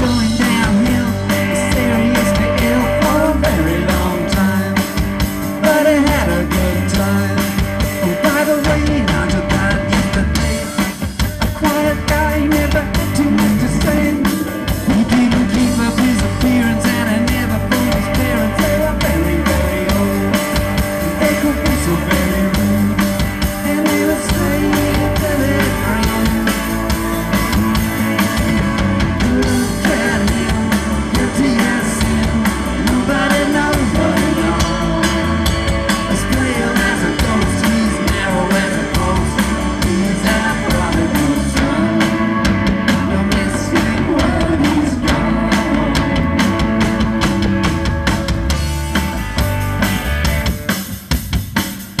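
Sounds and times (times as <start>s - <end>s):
rock band playing live: 0.0s - 52.0s.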